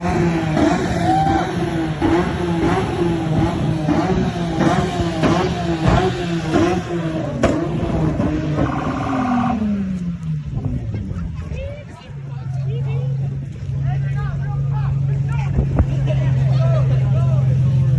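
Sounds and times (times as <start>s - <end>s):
car engines revving: 0.0s - 17.9s.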